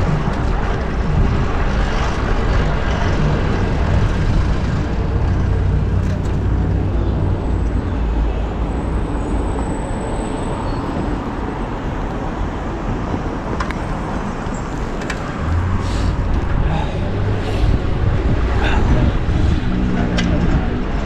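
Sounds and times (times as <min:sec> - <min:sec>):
road traffic noise: 0:00.0 - 0:21.0
wind rumbling on microphone: 0:00.0 - 0:21.0.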